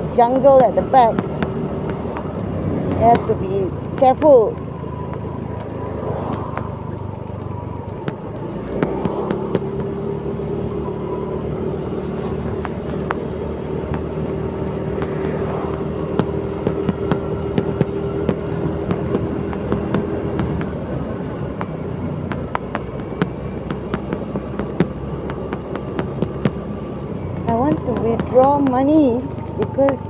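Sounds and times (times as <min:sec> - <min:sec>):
motor scooter engine humming: 0:00.0 - 0:30.0.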